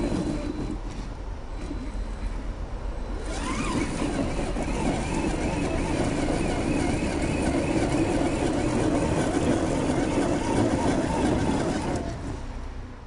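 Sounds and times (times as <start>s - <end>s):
electric motor whining: 0.0s - 2.4s, 3.1s - 12.4s.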